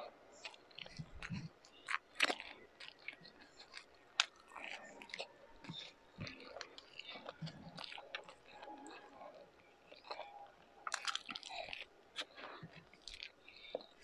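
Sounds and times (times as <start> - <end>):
chewing with wet mouth clicks: 0.0 - 14.0.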